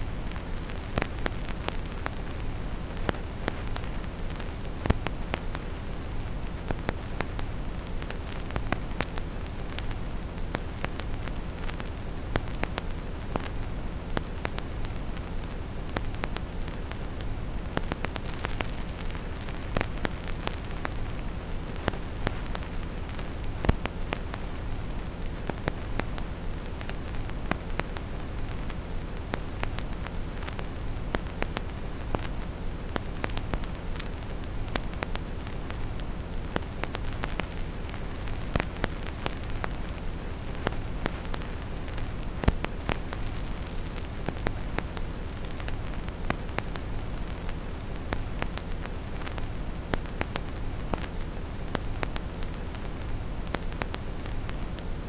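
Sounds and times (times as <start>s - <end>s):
deep steady hiss: 0.0s - 55.0s
vinyl record crackle: 0.0s - 55.0s.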